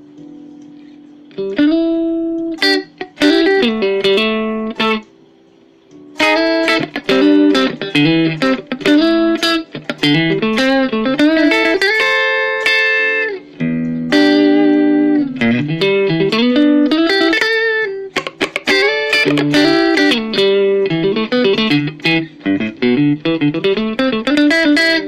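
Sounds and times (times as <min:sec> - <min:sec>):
clean electric guitar melody: 0:00.0 - 0:25.0.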